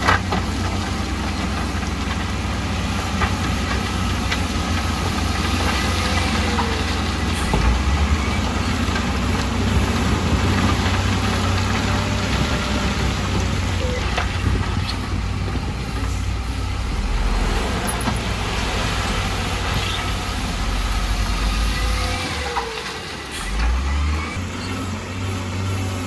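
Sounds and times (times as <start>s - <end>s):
heavy machinery engine rumbling: 0.0s - 26.0s.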